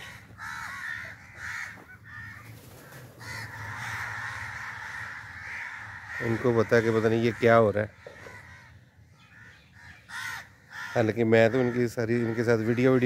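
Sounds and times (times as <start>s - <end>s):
crows cawing: 0.0s - 13.0s.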